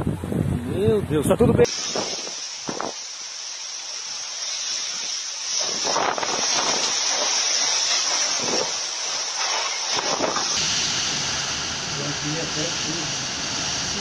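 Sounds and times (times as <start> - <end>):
storm wind and heavy rain: 0.0 - 14.0.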